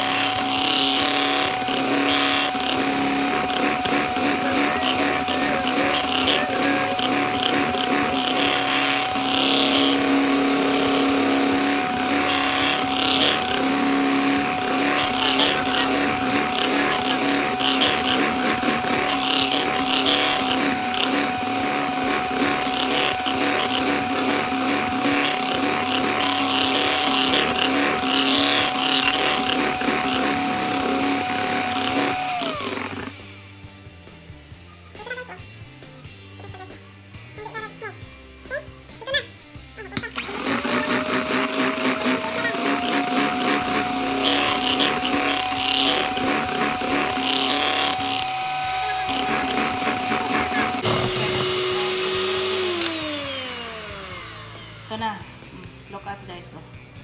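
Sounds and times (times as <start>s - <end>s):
electric hand mixer whirring: 0.0s - 33.6s, 40.0s - 55.8s.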